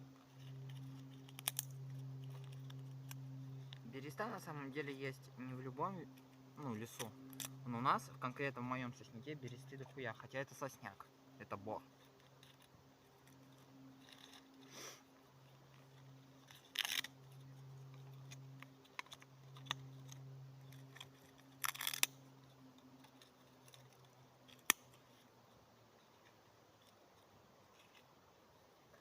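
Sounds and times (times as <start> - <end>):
faint low hum: 0.0 - 29.0
kindling crackling rustles: 0.0 - 29.0.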